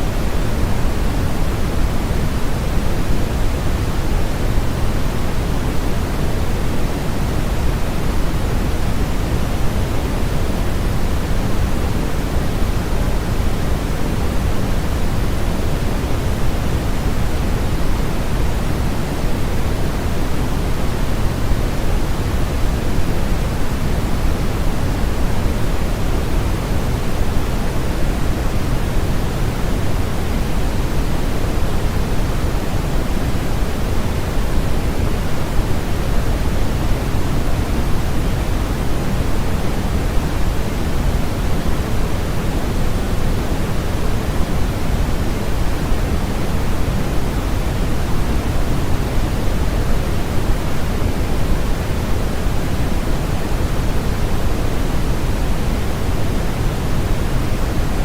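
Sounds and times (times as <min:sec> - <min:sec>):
steady synthesized noise hiss: 0:00.0 - 0:58.0.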